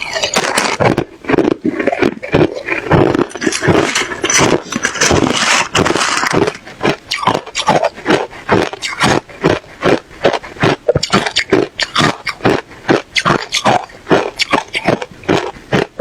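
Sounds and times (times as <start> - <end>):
person crunching ice cubes: 0.0 - 16.0.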